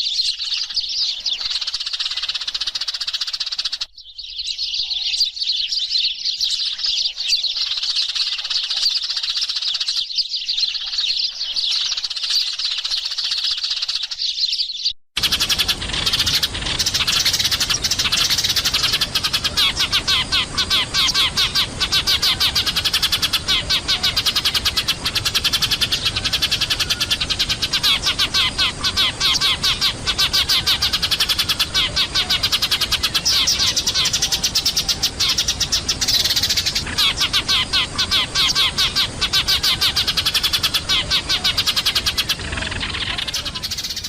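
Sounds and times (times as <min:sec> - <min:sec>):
sparrows chirping: 0:00.0 - 0:44.0.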